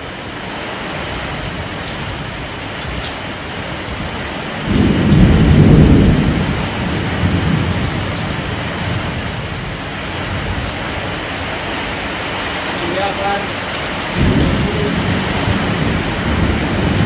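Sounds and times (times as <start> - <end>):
heavy rain falling: 0.0 - 17.0
thunder rumble: 1.2 - 12.2, 12.8 - 17.0.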